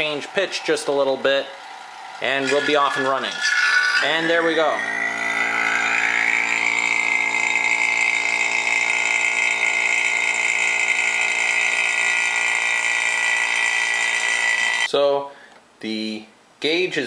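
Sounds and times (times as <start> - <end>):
vacuum pump whining: 0.0 - 14.9.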